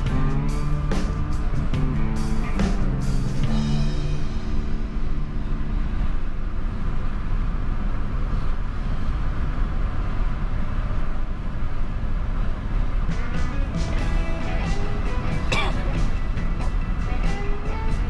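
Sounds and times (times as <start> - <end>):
car driving at speed: 0.0 - 18.0.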